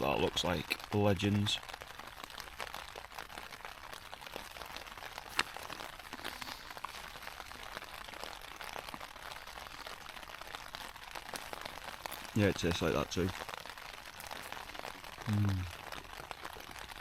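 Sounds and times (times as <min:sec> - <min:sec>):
rain pattering on a tent: 0:00.0 - 0:17.0.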